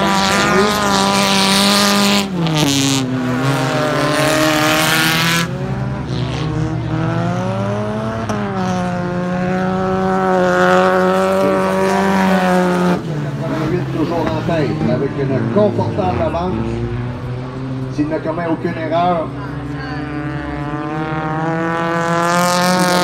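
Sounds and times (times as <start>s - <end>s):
stock car engines racing: 0.0s - 23.0s.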